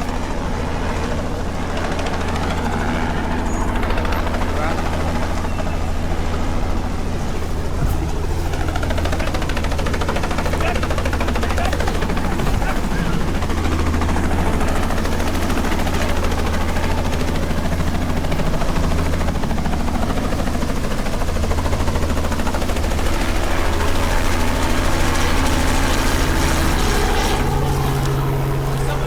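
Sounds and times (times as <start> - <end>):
helicopter engine drone: 0.0 - 29.0
rotor blades chopping: 0.0 - 29.0.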